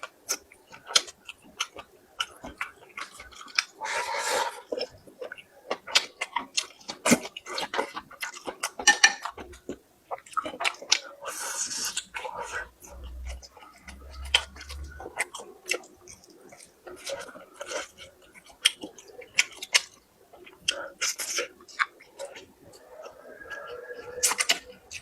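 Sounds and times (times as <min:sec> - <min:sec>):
person chewing and crunching food: 0:00.0 - 0:25.0.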